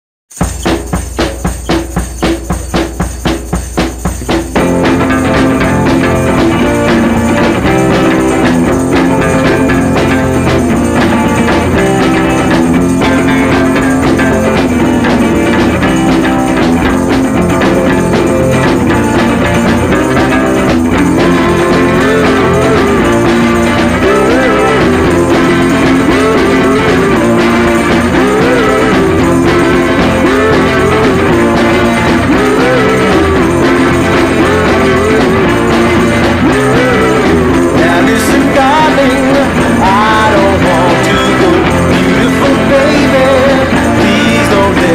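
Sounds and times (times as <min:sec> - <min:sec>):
rock music with electric guitar: 0:00.4 - 0:44.9.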